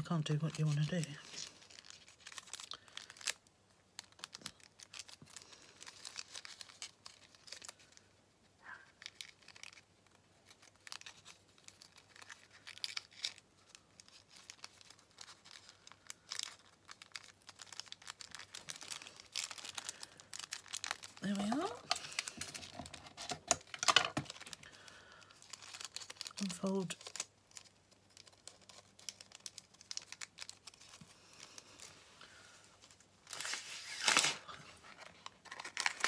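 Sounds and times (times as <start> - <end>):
paper crinkling: 0.0 - 36.0.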